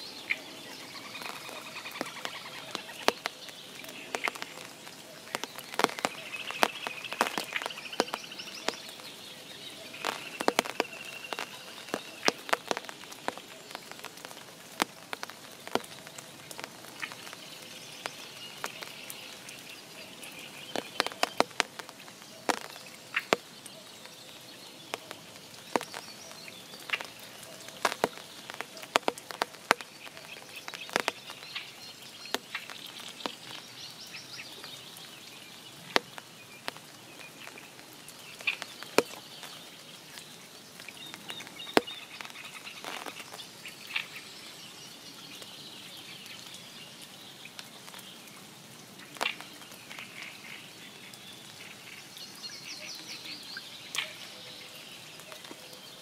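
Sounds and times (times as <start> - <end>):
rain drops tapping on pond: 0.0 - 56.0.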